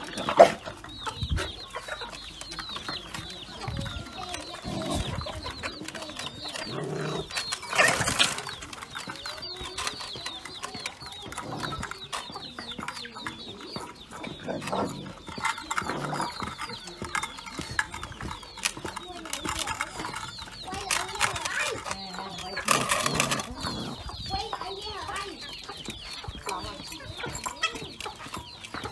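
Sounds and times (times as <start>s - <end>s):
birds chirping: 0.0s - 28.9s
lower bird calls: 0.0s - 28.9s.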